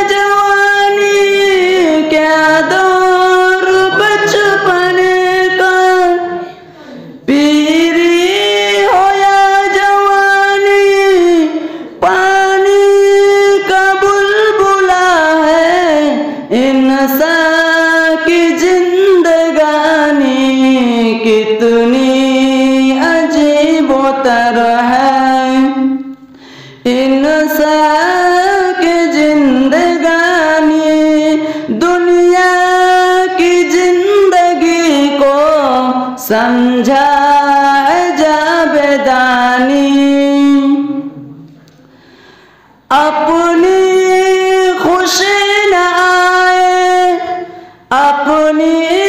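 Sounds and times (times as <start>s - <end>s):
man singing unaccompanied: 0.0s - 6.6s, 7.2s - 26.2s, 26.9s - 41.4s, 42.9s - 49.0s.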